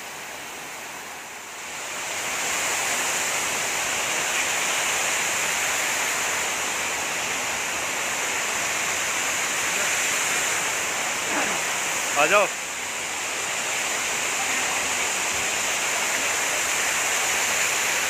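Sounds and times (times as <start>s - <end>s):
waterfall cascading into pool: 0.0s - 18.0s.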